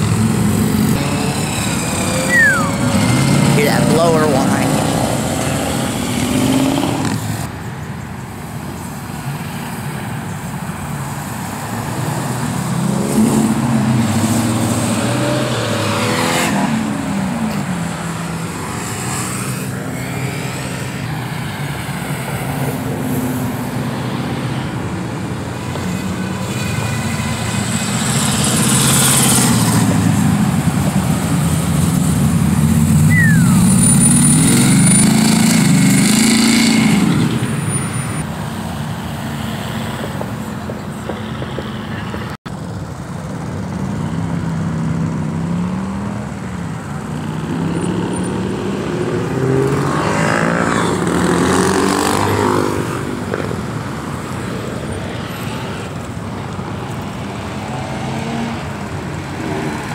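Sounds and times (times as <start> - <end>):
cars driving past: 0.0 - 59.9.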